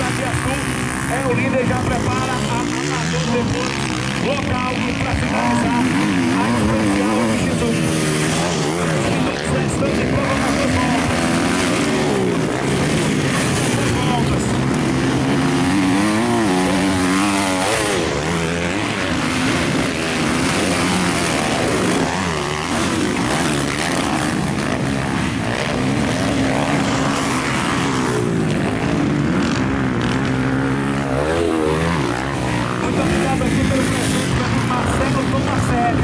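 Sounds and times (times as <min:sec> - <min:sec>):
motocross engines revving: 0:00.0 - 0:36.0.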